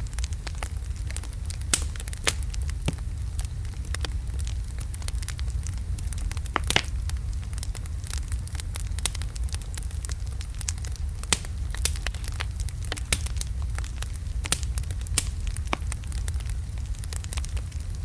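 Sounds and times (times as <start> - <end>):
fire crackling and popping: 0.0 - 18.0
fire low rumble: 0.0 - 18.0.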